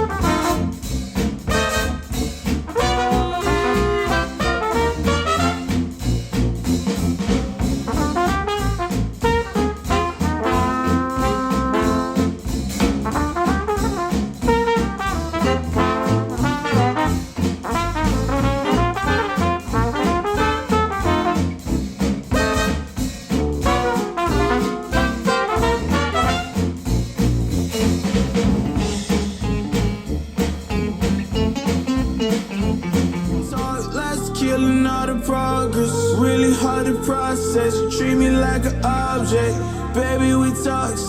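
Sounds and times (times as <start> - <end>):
instrumental music with heavy bass: 0.0 - 41.0.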